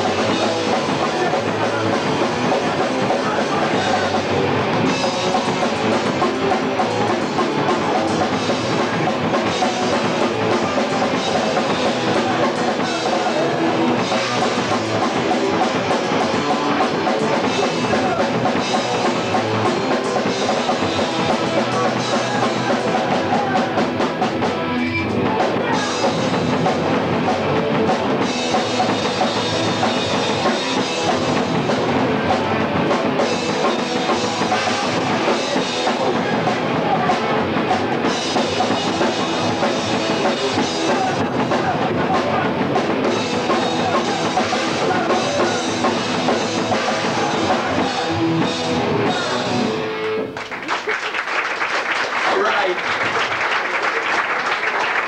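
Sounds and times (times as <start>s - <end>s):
fast pounding drum kit: 0.0s - 50.0s
electric guitars: 0.0s - 50.6s.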